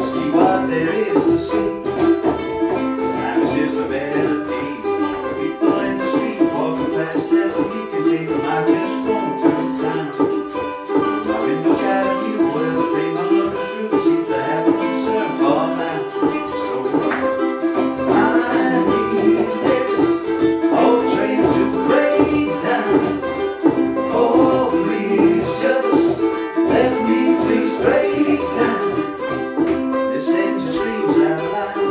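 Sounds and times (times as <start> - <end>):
percussion beat: 0.0 - 31.9
ukuleles strumming: 0.0 - 31.9.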